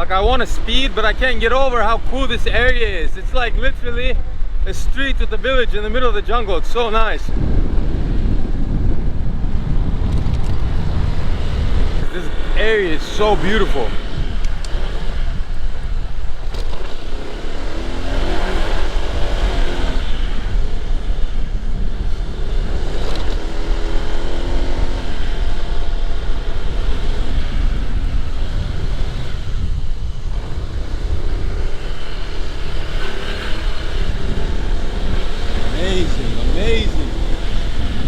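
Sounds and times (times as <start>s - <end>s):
motorbike engine and road noise: 0.0s - 38.0s
wind rumble on microphone: 0.0s - 38.0s.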